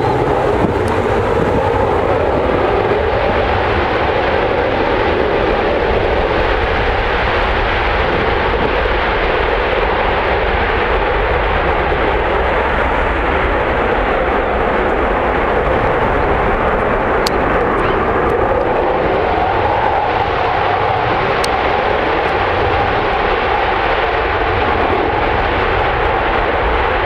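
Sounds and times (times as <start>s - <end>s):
jet engines at takeoff: 0.0s - 27.0s.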